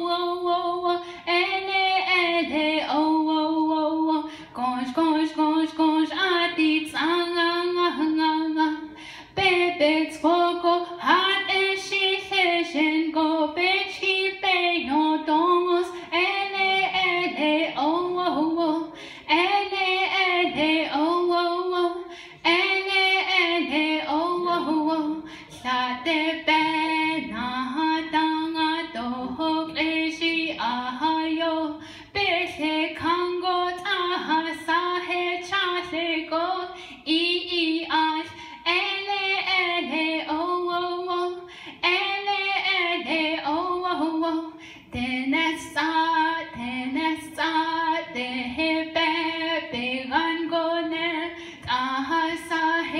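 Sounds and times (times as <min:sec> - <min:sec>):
young woman singing: 0:00.0 - 0:52.9.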